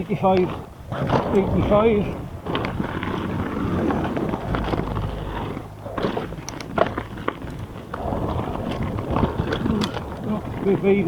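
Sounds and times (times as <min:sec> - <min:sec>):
bike clicks and knocks: 0:00.0 - 0:11.0
bike tyres on dirt: 0:00.0 - 0:11.0.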